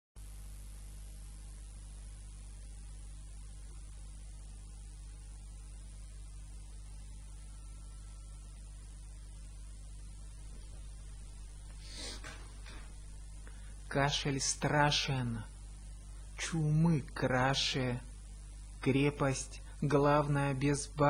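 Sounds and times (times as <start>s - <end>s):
constant hiss: 0.2s - 21.0s
electrical mains hum: 0.2s - 21.0s.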